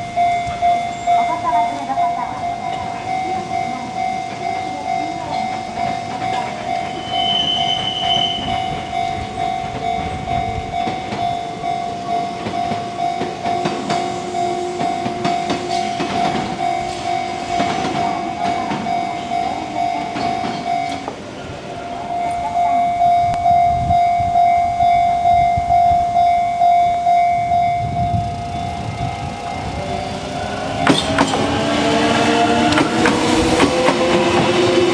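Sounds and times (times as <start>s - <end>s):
train wheels clattering: 0.0s - 22.6s, 28.2s - 34.9s
level crossing bell clanging: 0.0s - 34.9s.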